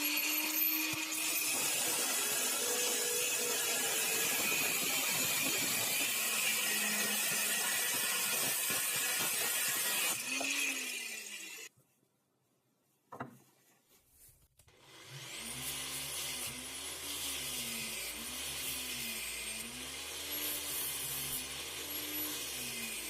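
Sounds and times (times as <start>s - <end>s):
jigsaw cutting wood: 0.0s - 11.7s, 14.7s - 23.0s.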